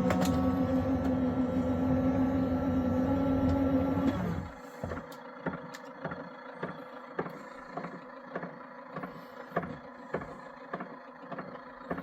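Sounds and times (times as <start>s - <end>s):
printer fan hum: 0.0s - 12.0s.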